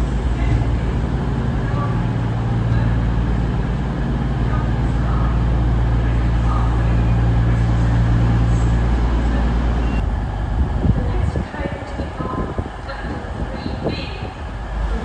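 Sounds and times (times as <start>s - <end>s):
diesel train engines idling: 0.0s - 15.0s.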